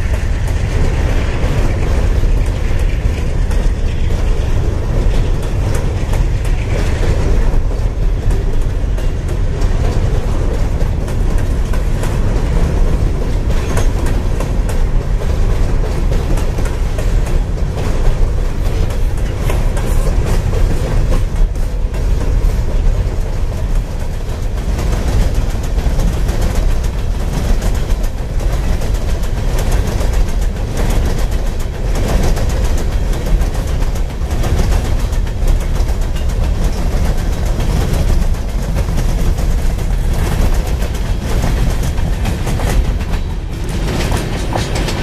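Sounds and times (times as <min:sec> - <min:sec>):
steel wheels rumbling on rail: 0:00.0 - 0:45.0.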